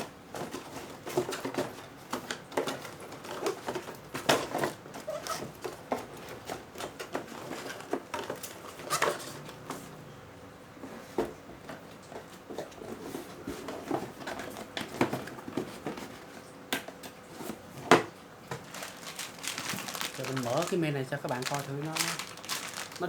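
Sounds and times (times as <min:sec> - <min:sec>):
handling parts and packaging: 0:00.0 - 0:10.0, 0:11.0 - 0:16.4, 0:17.4 - 0:23.0.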